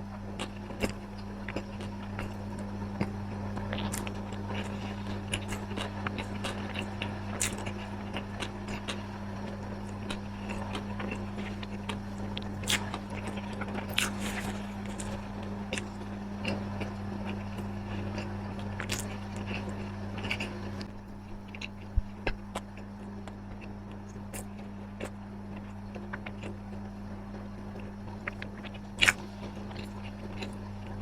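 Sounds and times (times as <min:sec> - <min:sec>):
low electrical hum: 0:00.0 - 0:31.0
crunchy biting and chewing: 0:00.1 - 0:31.0.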